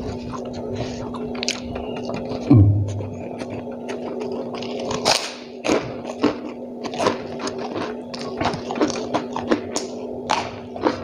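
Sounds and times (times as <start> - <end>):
wet chewing with lip smacks: 0.0 - 11.0.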